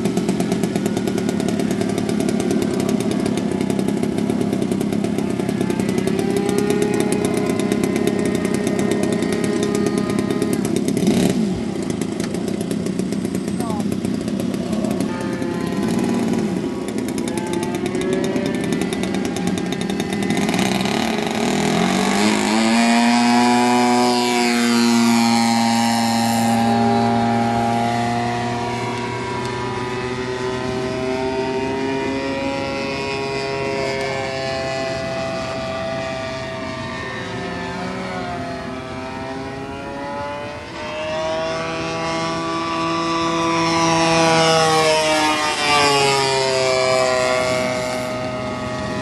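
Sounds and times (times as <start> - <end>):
model plane engine droning: 0.0 - 49.0.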